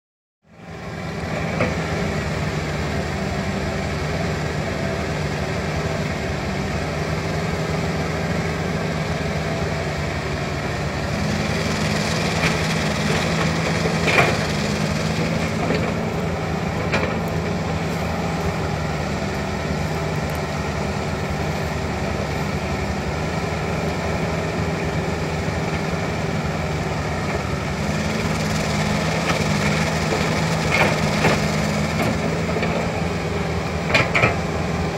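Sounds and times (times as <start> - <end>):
excavator diesel engine running: 0.5 - 34.9.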